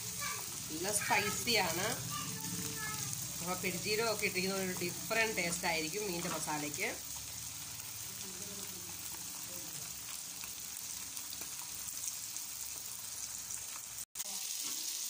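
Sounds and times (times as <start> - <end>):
oil sizzling and spitting: 0.0 - 15.0.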